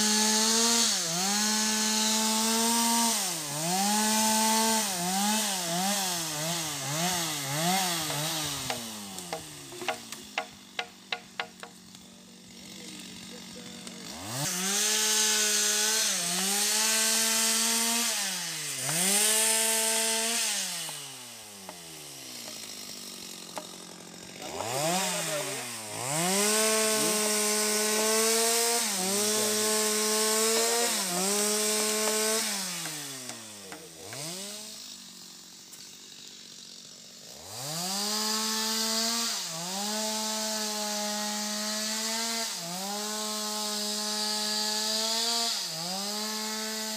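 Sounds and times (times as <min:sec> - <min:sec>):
chainsaw cutting logs: 0:00.0 - 0:46.9.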